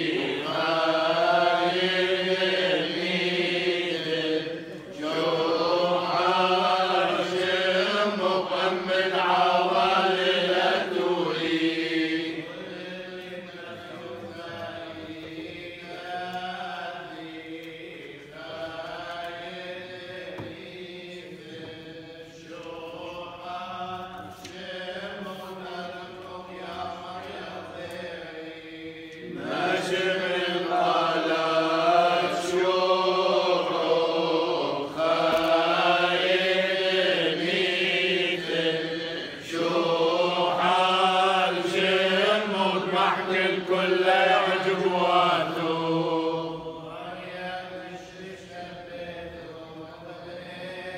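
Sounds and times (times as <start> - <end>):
men chanting prayers: 0.0 - 50.9.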